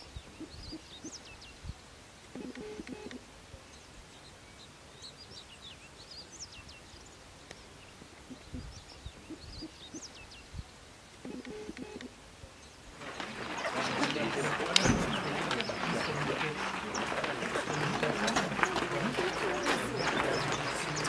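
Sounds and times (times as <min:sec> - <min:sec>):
steady background hiss: 0:00.0 - 0:18.3
birds chirping: 0:00.0 - 0:21.0.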